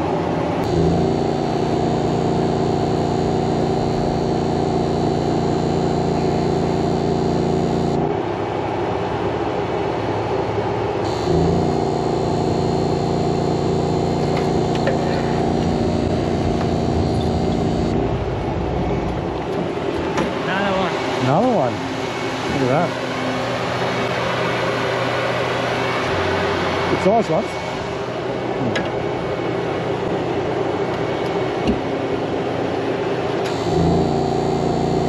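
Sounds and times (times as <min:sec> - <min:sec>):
boat machinery drone: 0:00.0 - 0:35.0
electrical hum: 0:00.0 - 0:35.0.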